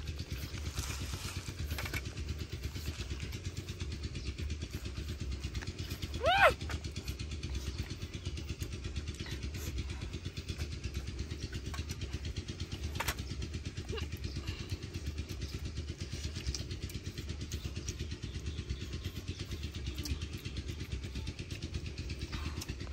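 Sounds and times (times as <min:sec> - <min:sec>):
small engine running: 0:00.0 - 0:22.9.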